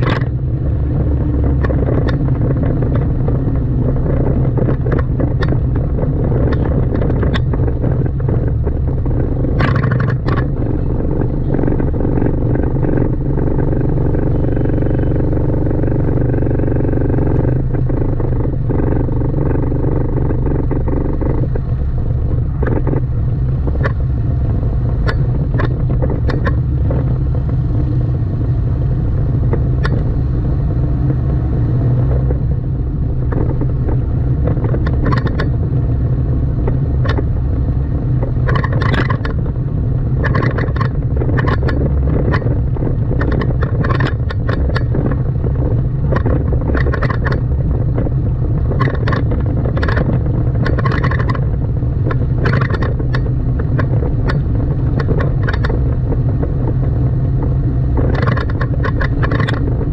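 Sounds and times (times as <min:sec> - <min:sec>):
car road and engine rumble: 0:00.0 - 0:59.9
irregular clatters and knocks: 0:00.0 - 0:59.9.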